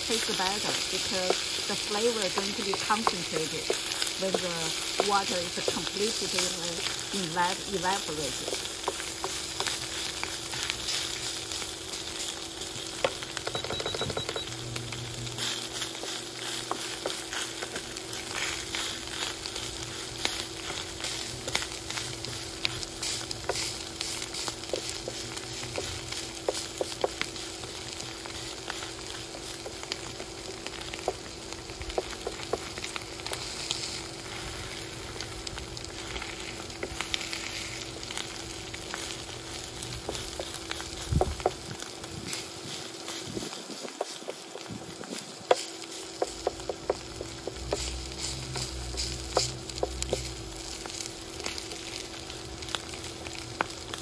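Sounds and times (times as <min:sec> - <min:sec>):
beef sizzling in frying pan: 0:00.0 - 0:54.0.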